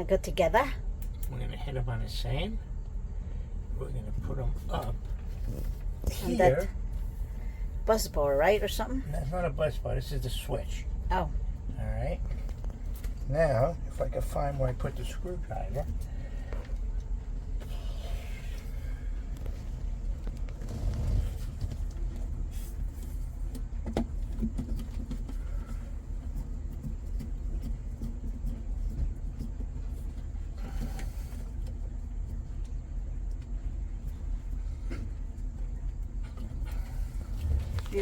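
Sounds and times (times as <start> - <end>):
machinery rumbling: 0.0 - 38.0.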